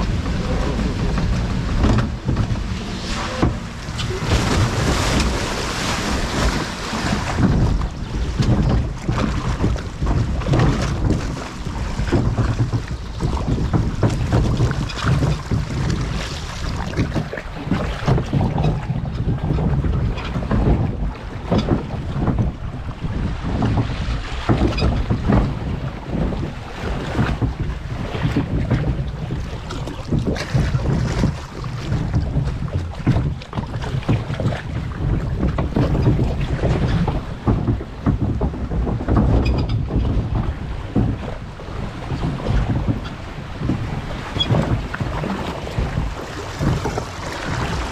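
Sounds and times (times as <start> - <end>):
boat knocks and splashes: 0.0 - 47.9
water rushing and sloshing: 0.0 - 47.9
wind buffeting microphone: 0.0 - 47.9.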